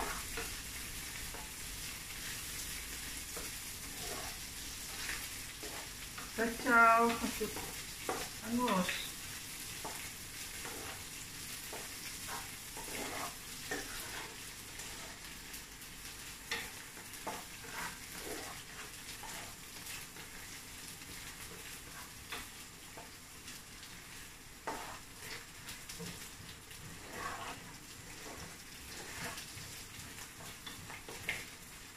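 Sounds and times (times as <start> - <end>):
spatula scraping pan: 0.0 - 31.7
food sizzling in hot oil: 0.0 - 31.9.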